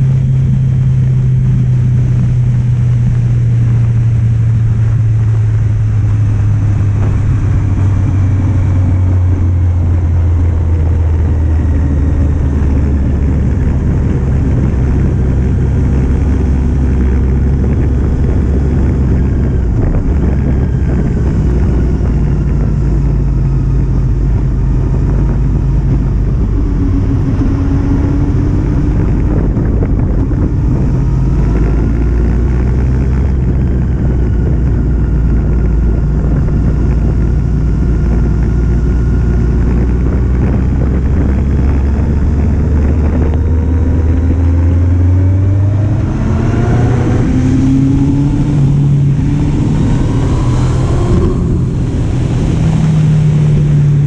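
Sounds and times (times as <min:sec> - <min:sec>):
motorcycle engine running: 0:00.0 - 0:54.0
wind rumble on microphone: 0:00.0 - 0:54.0.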